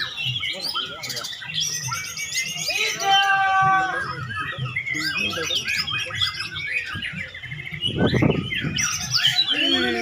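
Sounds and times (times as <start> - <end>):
bird singing whistles and chatter: 0.0 - 10.0.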